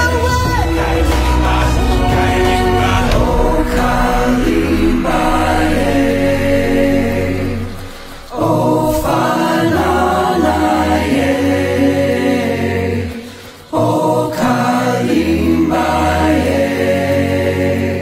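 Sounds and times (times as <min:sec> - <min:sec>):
choir singing chant-like phrases: 0:00.0 - 0:18.0
steady low drone: 0:00.0 - 0:18.0.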